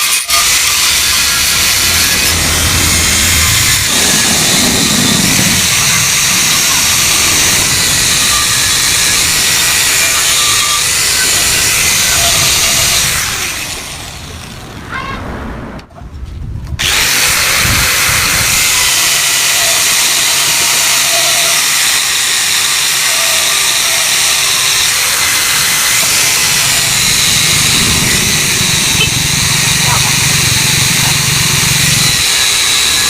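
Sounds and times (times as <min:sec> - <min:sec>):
power tool grinding metal: 0:00.0 - 0:14.5, 0:16.8 - 0:33.0.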